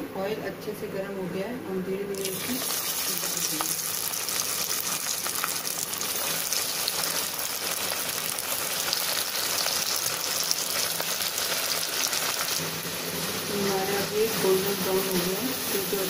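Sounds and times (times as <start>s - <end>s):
potato wedges deep-frying in oil: 2.1s - 16.0s.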